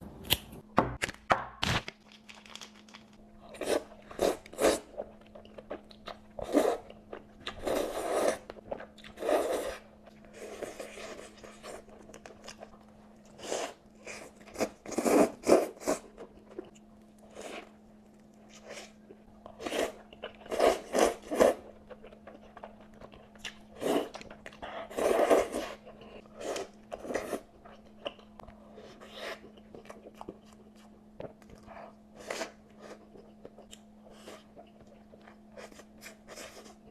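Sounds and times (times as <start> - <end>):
faint steady hum: 1.7 - 36.9.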